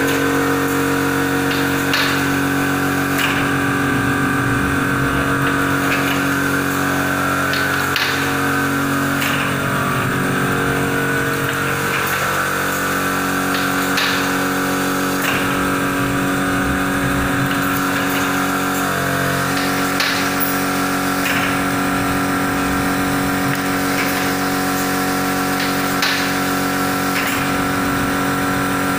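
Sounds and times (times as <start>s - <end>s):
machine drone: 0.0s - 28.9s.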